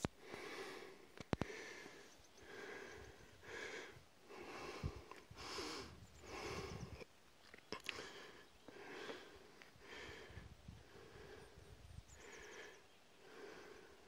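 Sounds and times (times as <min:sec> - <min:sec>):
heavy breathing: 0:00.2 - 0:07.0, 0:07.8 - 0:14.0.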